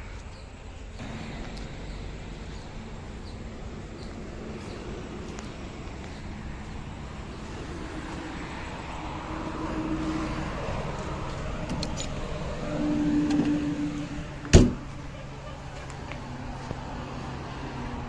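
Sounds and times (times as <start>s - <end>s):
road traffic rumble: 0.0s - 18.0s
vehicle engine hum: 0.0s - 18.0s.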